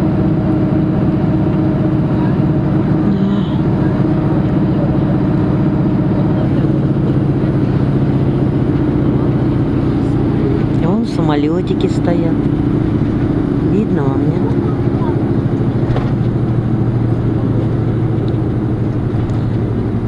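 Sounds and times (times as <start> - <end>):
bus engine and road drone: 0.0 - 20.0.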